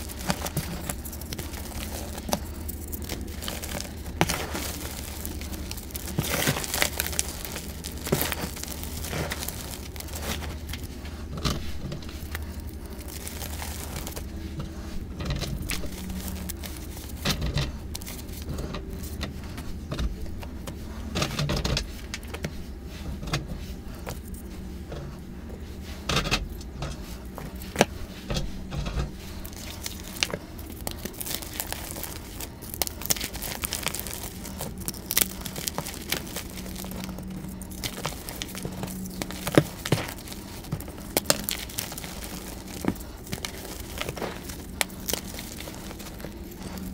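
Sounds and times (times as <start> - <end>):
chalk crushed and rubbed between hands: 0.0 - 46.9.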